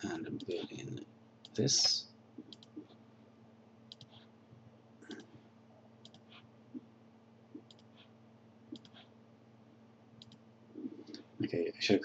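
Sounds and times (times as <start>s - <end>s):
quiet hum: 0.0s - 12.0s.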